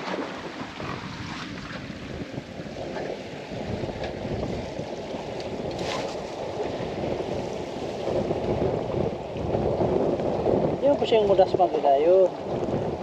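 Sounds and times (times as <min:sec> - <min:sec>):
water slapping against boat hull: 0:00.0 - 0:11.6
wind rumbling on microphone: 0:00.0 - 0:13.0.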